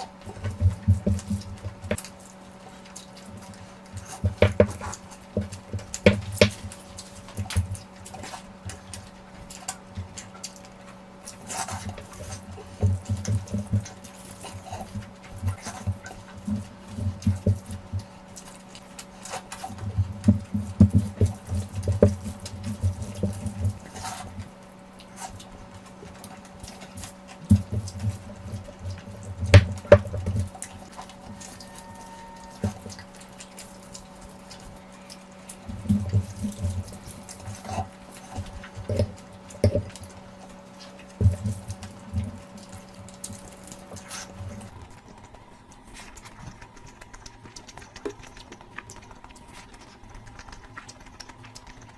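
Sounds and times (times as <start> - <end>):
faint steady hum: 0.0 - 51.9
wet chewing and mouth smacks: 0.0 - 51.9.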